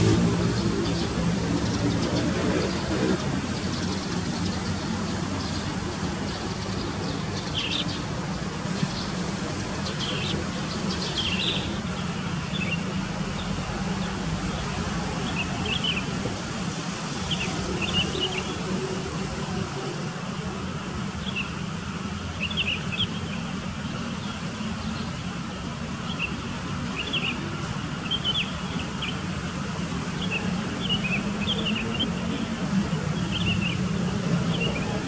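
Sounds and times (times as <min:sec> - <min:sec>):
distant traffic rumble: 0:00.0 - 0:35.0.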